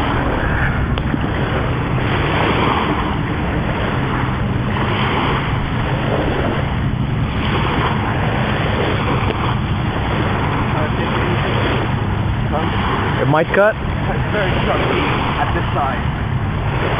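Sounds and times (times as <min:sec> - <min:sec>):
surf washing on beach: 0:00.0 - 0:16.9
wind buffeting microphone: 0:00.0 - 0:16.9.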